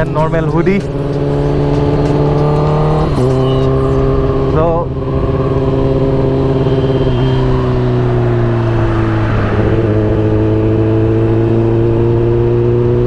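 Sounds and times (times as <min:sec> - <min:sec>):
motorcycle engine with loud exhaust: 0:00.0 - 0:13.0.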